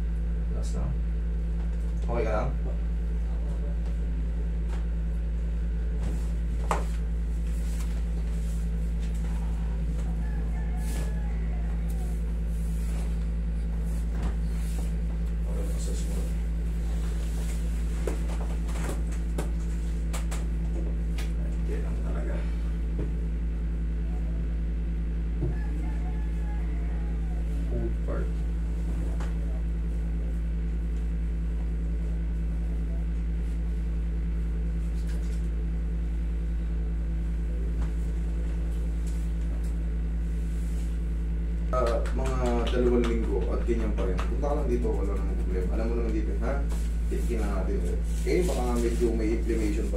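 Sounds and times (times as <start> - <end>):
air conditioner humming: 0.0 - 49.9.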